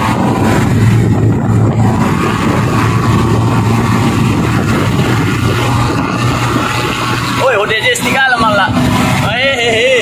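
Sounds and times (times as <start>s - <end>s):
engine drone inside cab: 0.0s - 10.0s
road and wind noise: 0.0s - 10.0s.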